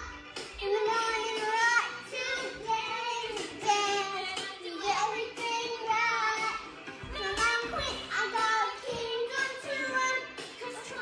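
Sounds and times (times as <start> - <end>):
backing song: 0.0 - 11.0
girl singing: 0.0 - 11.0.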